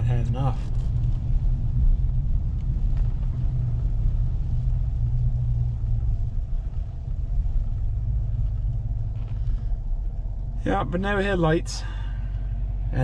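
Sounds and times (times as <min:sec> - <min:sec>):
truck driving rumble inside cab: 0:00.0 - 0:13.0.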